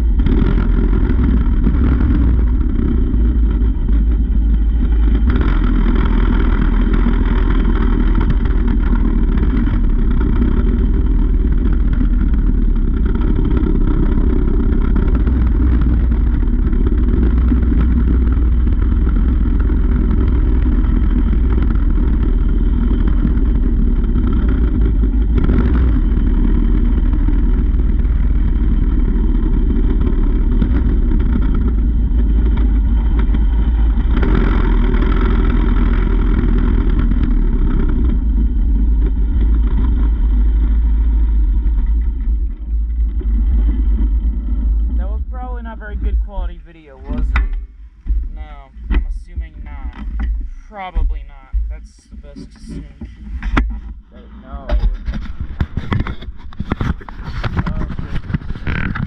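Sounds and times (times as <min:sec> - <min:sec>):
small motorbike engine running: 0:00.0 - 0:59.0.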